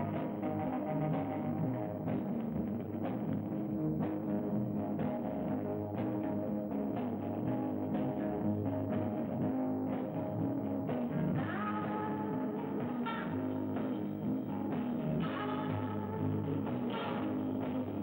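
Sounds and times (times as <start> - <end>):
low bass notes: 0.0 - 18.0.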